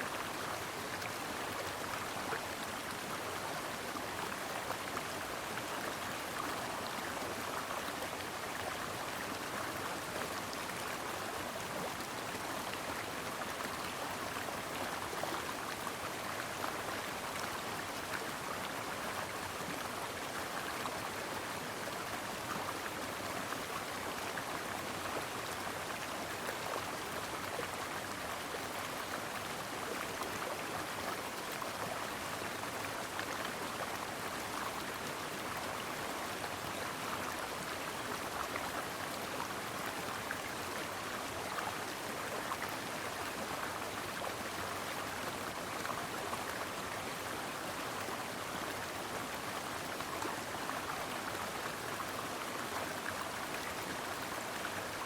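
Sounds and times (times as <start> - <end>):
brook water flowing: 0.0 - 55.0.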